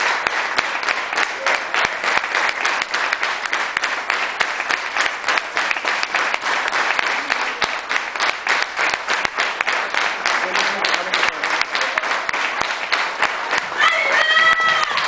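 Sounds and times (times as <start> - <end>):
crowd applause: 0.0 - 15.0.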